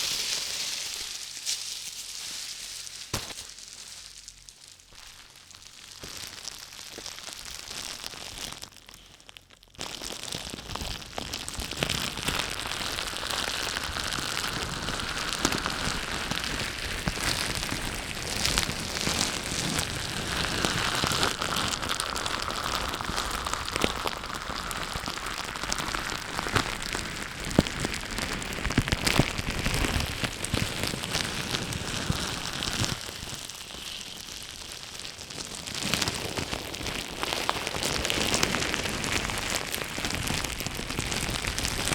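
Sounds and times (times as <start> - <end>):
dense crackling with sharp clicks: 0.0 - 41.9.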